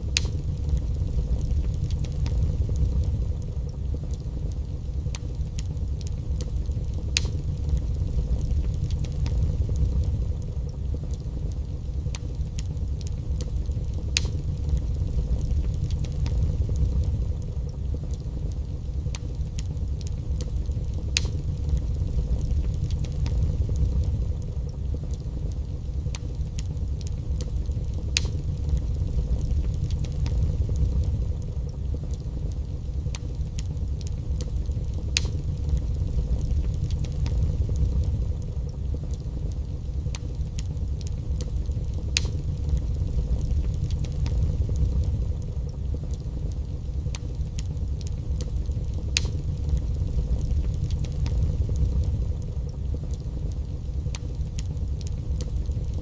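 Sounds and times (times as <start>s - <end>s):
fire crackles and pops: 0.0s - 56.0s
fire rumbling in fireplace: 0.0s - 56.0s.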